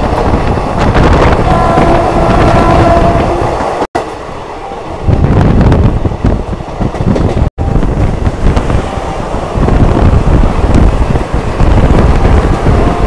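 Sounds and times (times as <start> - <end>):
moving train rumble: 0.0 - 13.0
wind buffeting microphone: 0.0 - 13.0.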